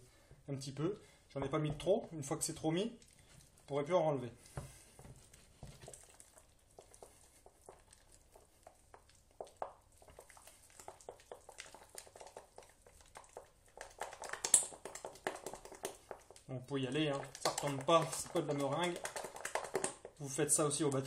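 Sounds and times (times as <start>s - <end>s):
spatula beating dough in glass bowl: 1.4s - 21.0s.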